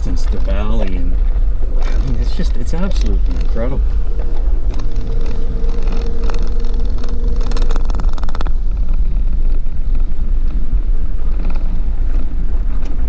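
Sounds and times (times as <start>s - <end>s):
faint steady whine: 0.0s - 13.0s
rattling buzz: 0.0s - 13.0s
vehicle driving on gravel: 0.0s - 13.0s.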